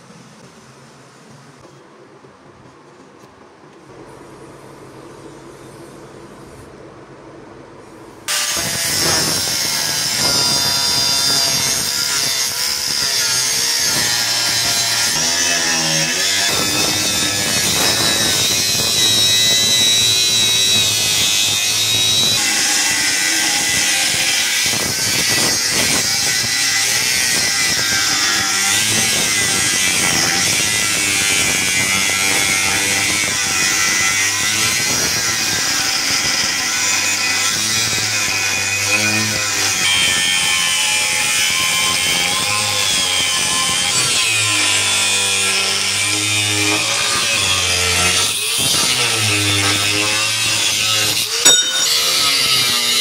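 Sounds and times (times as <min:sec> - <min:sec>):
power tool cutting metal: 0:08.3 - 0:53.0.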